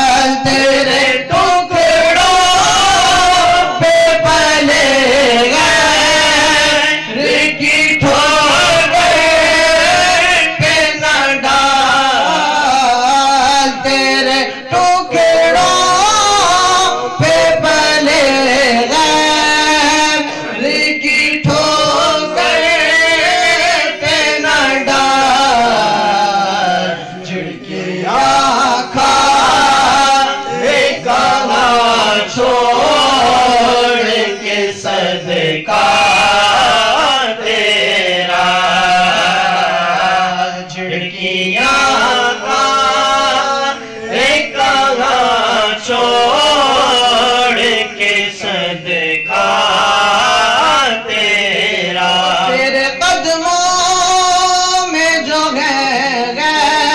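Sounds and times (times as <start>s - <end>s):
man singing into a microphone: 0.0s - 56.9s.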